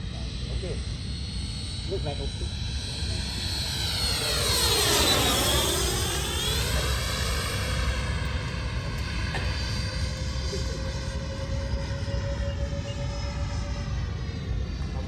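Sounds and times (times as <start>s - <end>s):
model jet whining overhead: 0.0s - 15.0s.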